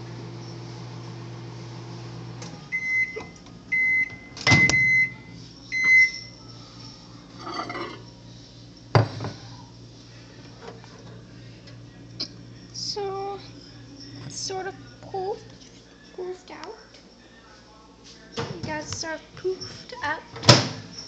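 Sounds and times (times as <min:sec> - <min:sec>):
microwave oven hum: 0:00.0 - 0:17.9.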